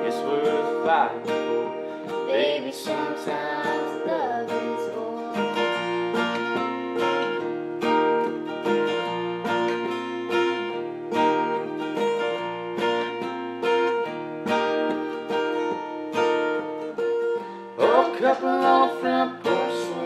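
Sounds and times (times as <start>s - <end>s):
acoustic guitars playing: 0.0s - 20.0s.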